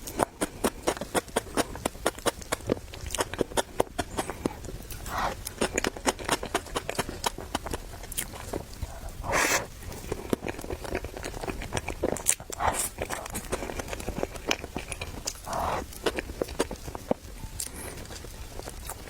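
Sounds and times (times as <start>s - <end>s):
wet chewing and biting: 0.0s - 19.0s.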